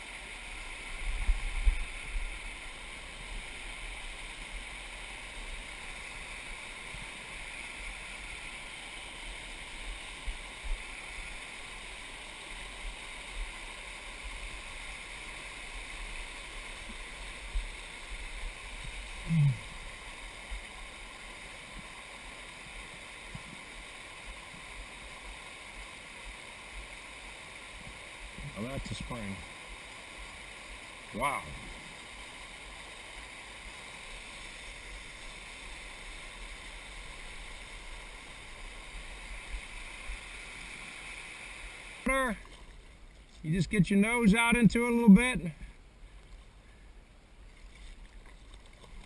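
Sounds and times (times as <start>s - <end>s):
water rushing over boulders: 0.0s - 46.6s.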